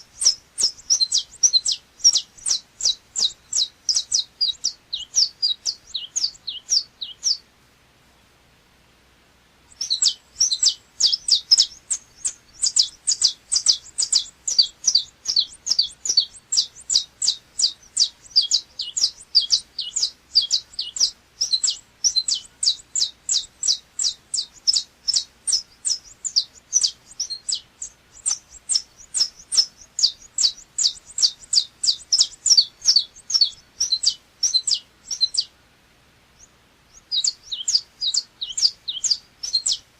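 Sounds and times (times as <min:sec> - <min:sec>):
finch singing sharp high notes: 0:00.0 - 0:07.4, 0:09.7 - 0:35.5.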